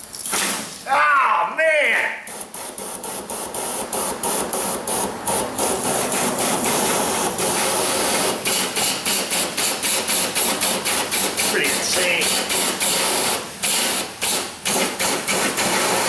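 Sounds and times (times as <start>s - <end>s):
flush gun hissing and spraying: 2.2s - 16.0s.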